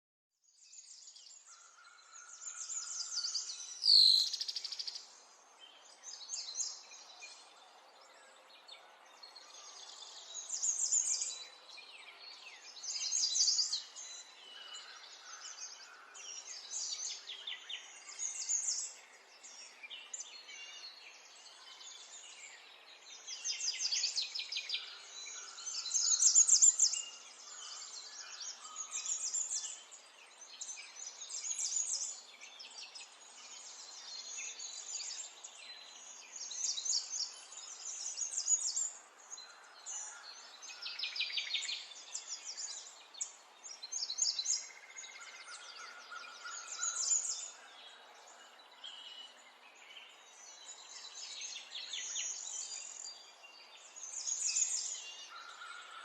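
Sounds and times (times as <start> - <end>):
birds singing: 0.4 - 56.0.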